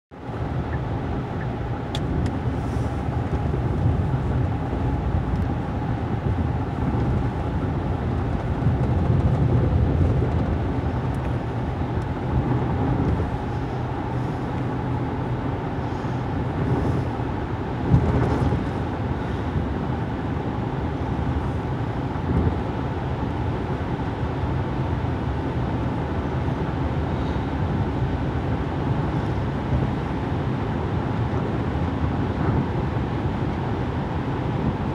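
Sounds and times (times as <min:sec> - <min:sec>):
car cabin road noise: 0:00.2 - 0:34.9.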